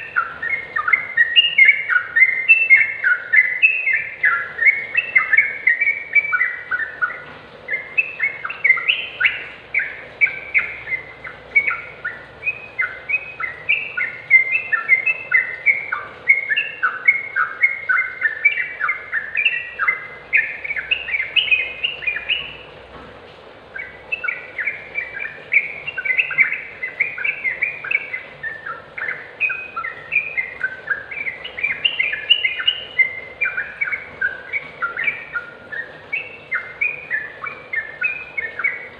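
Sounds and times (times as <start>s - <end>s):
bird song chattering: 0.0s - 23.0s, 23.6s - 38.9s.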